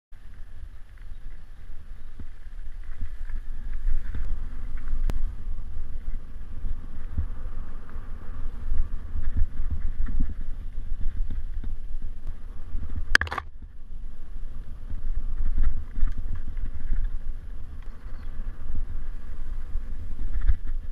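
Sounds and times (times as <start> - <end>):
bike knocking and rattling: 0.2 - 20.9
wind rumble on microphone: 0.2 - 20.9.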